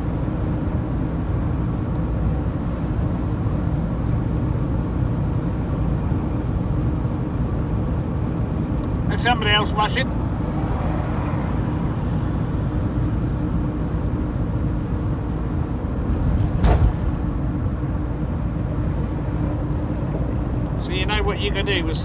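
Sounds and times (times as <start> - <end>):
van engine and tyre rumble: 0.0 - 22.0.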